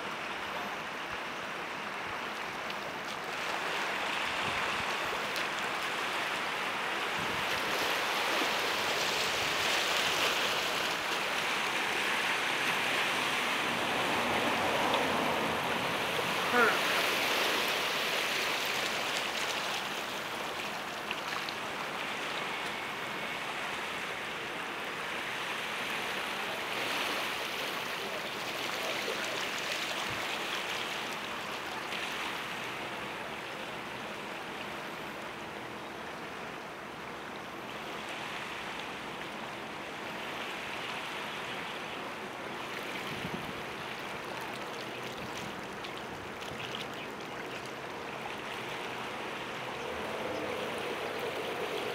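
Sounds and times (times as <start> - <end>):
ferry rushing water noise: 0.0 - 51.9.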